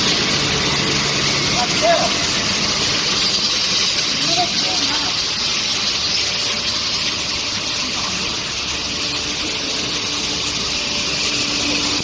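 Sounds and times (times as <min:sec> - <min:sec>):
high steady whine: 0:00.0 - 0:12.0.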